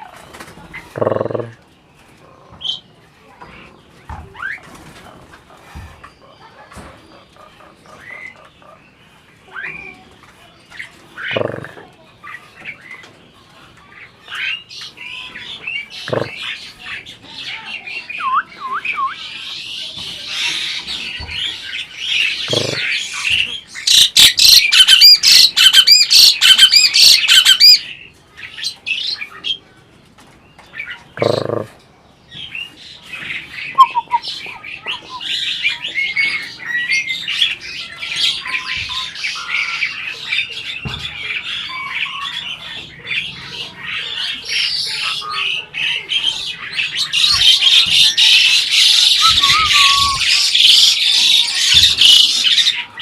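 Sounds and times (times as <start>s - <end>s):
starling calling and chattering: 0.0s - 13.1s, 14.0s - 29.6s, 30.7s - 53.0s.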